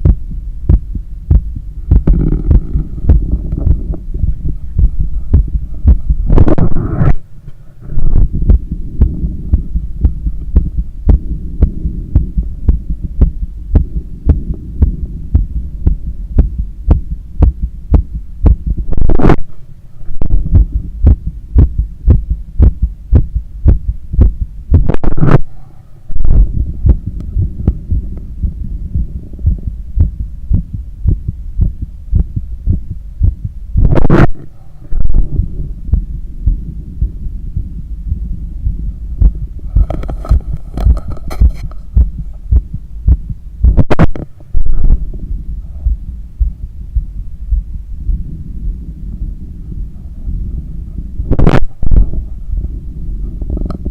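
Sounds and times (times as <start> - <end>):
heartbeat through a stethoscope: 0.0 - 7.2, 7.9 - 19.5, 20.2 - 53.9.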